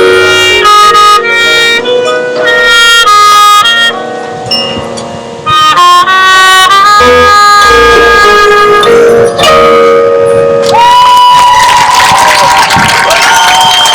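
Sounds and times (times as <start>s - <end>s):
marching band playing held notes: 0.0s - 11.6s.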